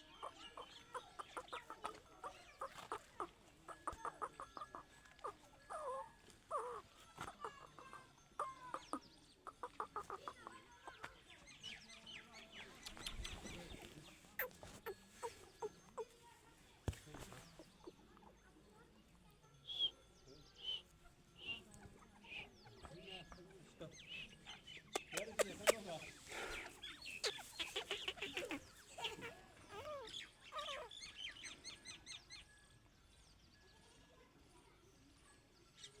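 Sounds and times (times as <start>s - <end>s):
francolin clucking and chirping: 0.0s - 16.5s, 17.3s - 34.3s.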